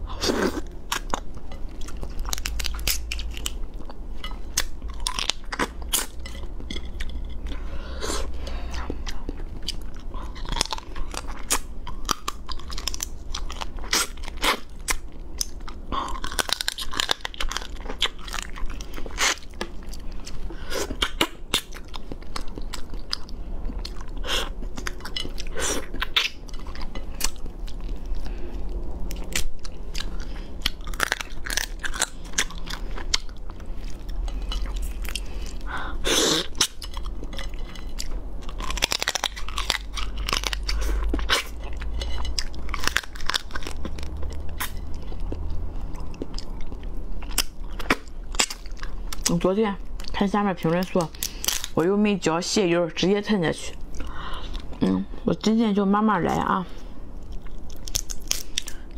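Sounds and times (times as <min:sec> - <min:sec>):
chewing: 0:00.1 - 0:51.8, 0:57.2 - 0:58.9
crab shell crunching: 0:00.5 - 0:07.2, 0:09.1 - 0:49.3, 0:50.9 - 0:51.8, 0:57.2 - 0:58.9.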